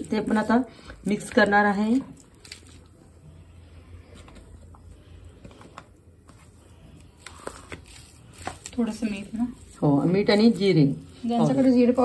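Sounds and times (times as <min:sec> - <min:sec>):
hand kneading soft mash: 0:00.0 - 0:12.0.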